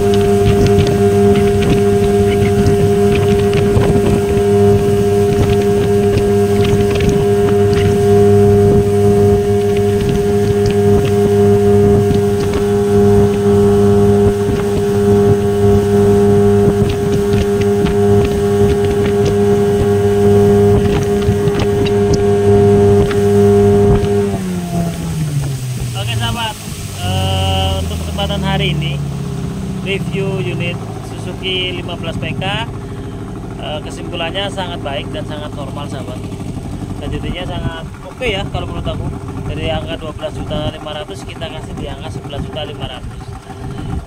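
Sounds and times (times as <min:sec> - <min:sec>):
outboard motor running: 0:00.0 - 0:44.0
water rushing off hull: 0:00.0 - 0:44.0.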